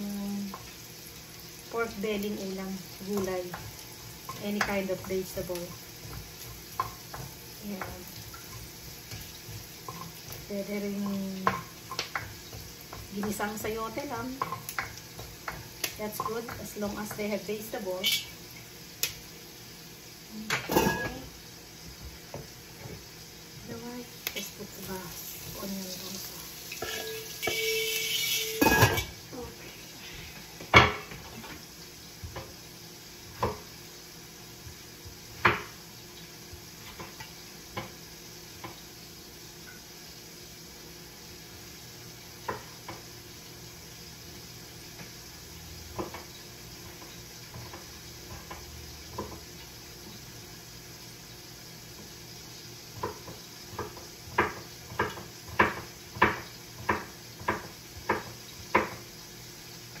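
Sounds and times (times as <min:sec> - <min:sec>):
pork sizzling in a pot: 0:00.0 - 1:00.0.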